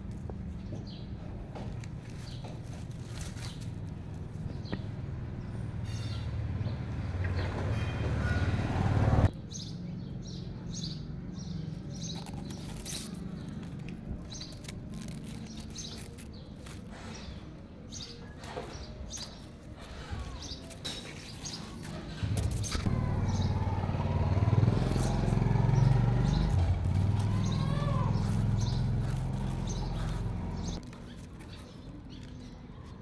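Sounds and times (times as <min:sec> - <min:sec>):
small birds chirping: 0:00.2 - 0:08.4, 0:09.3 - 0:33.0.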